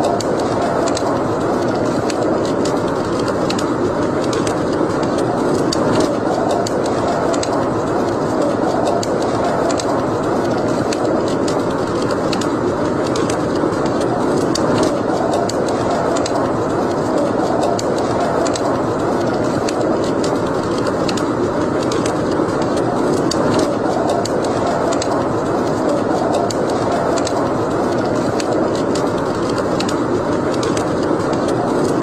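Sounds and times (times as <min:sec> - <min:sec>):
fire crackling and popping: 0:00.0 - 0:32.0
flames rushing: 0:00.0 - 0:32.0.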